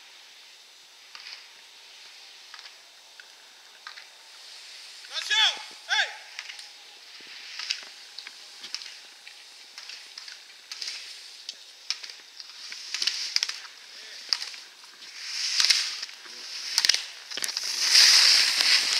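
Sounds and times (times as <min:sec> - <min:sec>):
skis scraping on snow: 0:00.0 - 0:18.9.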